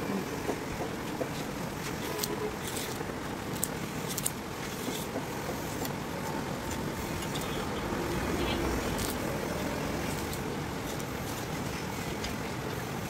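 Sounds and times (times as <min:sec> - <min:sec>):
steady background rumble: 0:00.0 - 0:13.0.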